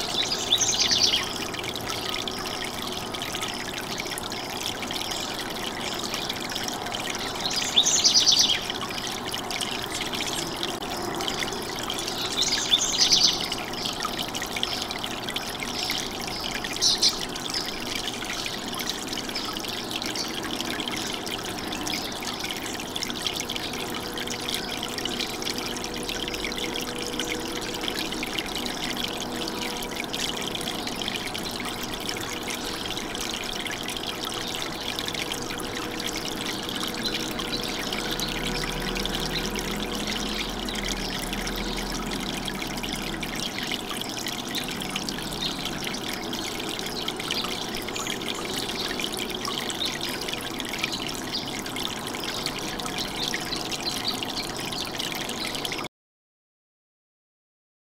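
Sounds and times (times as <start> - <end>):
fountain water splashing: 0.0 - 55.8.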